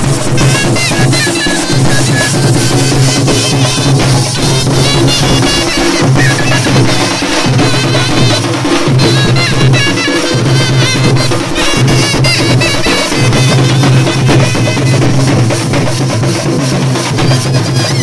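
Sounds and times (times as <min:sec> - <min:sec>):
hand-played barrel drums: 0:00.0 - 0:18.0
loud busy drumming: 0:00.0 - 0:18.0
reedy wind instrument melody: 0:00.0 - 0:18.0.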